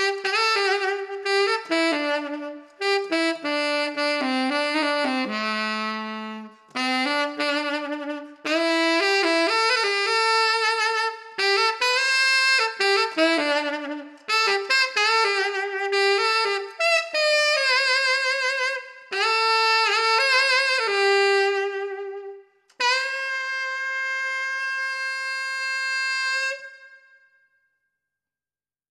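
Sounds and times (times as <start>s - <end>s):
tenor saxophone melody: 0.0s - 27.3s.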